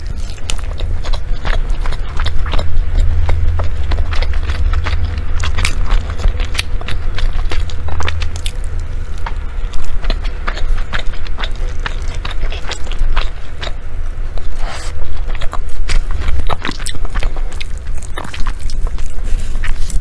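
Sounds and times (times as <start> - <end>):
chewing sticky rice: 0.0 - 20.0.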